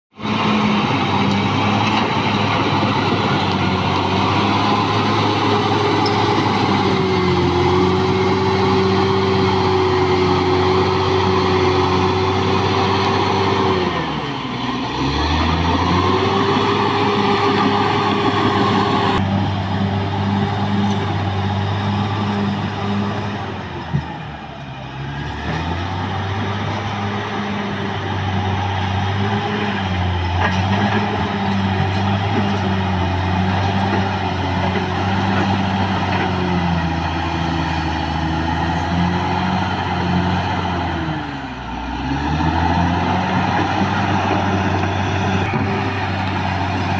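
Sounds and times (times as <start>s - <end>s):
bulldozer diesel engine working: 0.1s - 46.9s.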